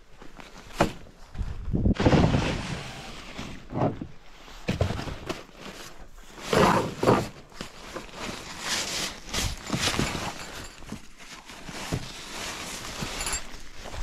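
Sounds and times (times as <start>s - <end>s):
nylon bags rustling and bumping: 0.1s - 14.0s.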